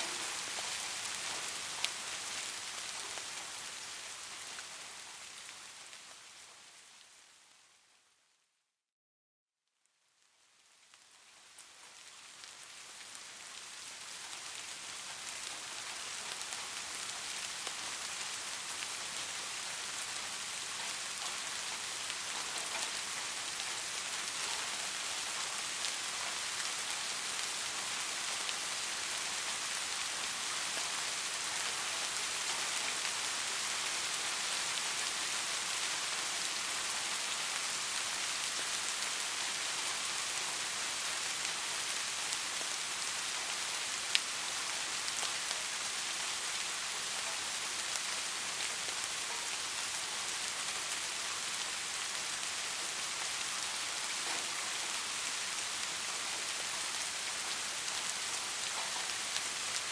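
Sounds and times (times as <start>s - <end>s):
dense rainfall hiss: 0.0s - 8.3s, 9.9s - 59.9s.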